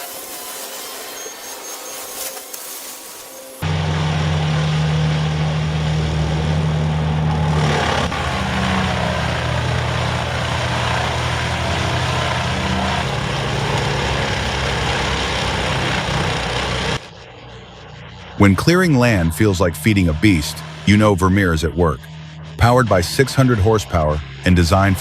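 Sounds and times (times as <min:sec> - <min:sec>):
heavy machine engine running: 0:03.4 - 0:25.0.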